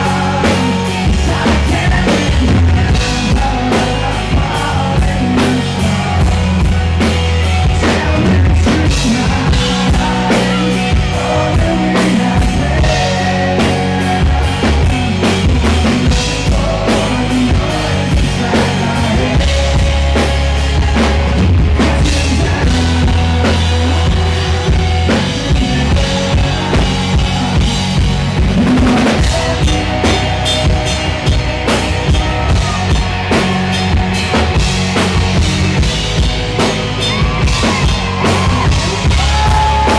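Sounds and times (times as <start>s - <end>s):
drum kit beat: 0.0s - 39.9s
heavy bass line: 0.0s - 39.9s
live rock band: 0.0s - 39.9s
singer's vocals: 0.0s - 39.9s.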